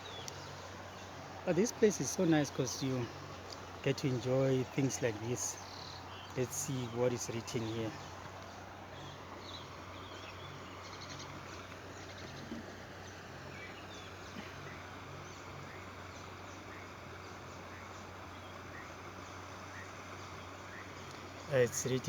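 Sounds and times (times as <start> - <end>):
faint bird chirps: 0.0 - 22.0
steady low hum: 0.0 - 22.0.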